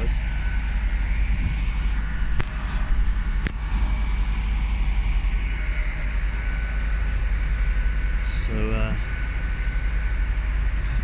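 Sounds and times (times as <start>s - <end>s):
diesel trains idling: 0.0s - 11.0s.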